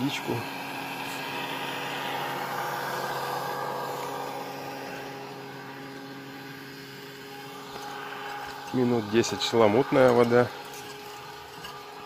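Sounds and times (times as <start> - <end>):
electric pump motor humming: 0.0 - 12.0.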